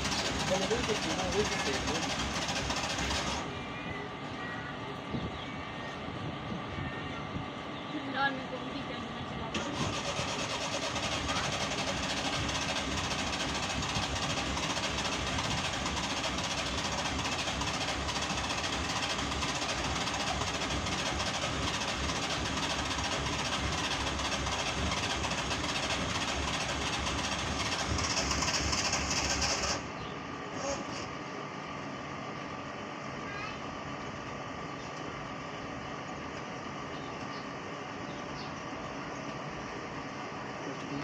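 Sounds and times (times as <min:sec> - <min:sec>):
small car engine running: 0:00.0 - 0:07.3, 0:07.9 - 0:41.0.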